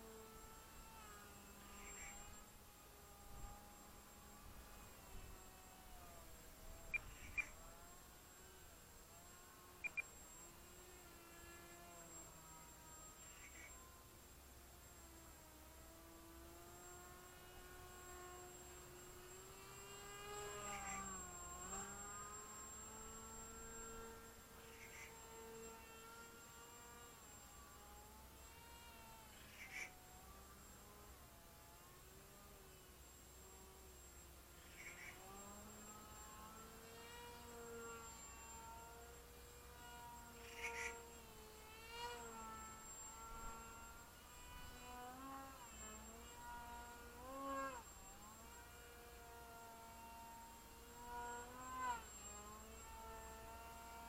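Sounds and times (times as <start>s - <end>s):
model plane motor whine: 0.0s - 54.0s.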